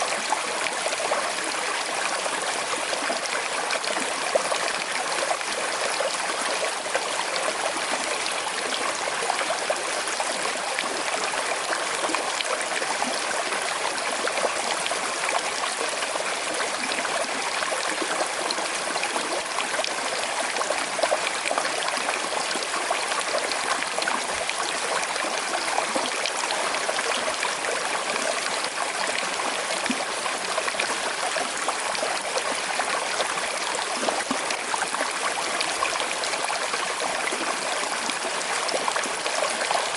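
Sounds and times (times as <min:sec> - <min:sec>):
river trickling over stones: 0:00.0 - 0:39.9.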